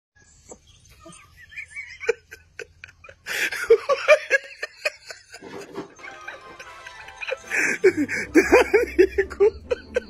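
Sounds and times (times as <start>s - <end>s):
person laughing: 1.1s - 10.0s.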